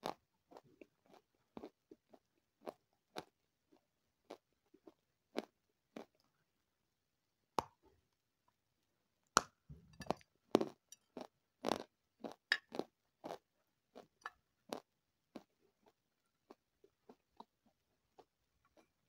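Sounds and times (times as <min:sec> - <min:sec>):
cookie crunching chews: 0:00.0 - 0:06.3, 0:09.4 - 0:19.0.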